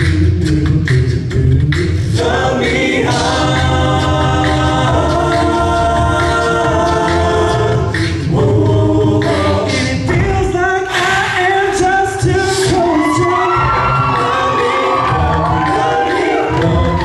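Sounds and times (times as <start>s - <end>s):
beatboxed vocal percussion: 0.0s - 17.0s
male a cappella group singing: 0.0s - 17.0s.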